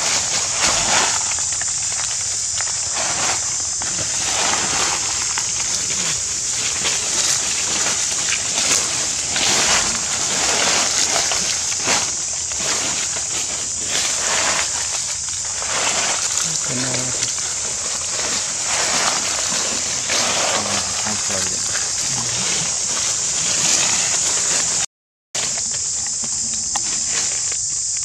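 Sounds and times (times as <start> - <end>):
footsteps crunching dry leaves: 0.0 - 28.0
high-pitched hiss: 0.0 - 28.0.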